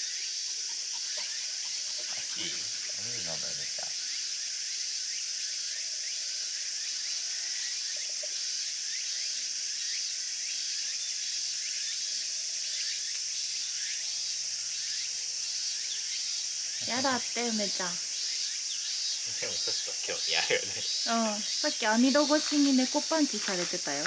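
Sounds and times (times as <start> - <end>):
insect chirps: 0.0 - 24.0
insects buzzing: 0.0 - 24.0.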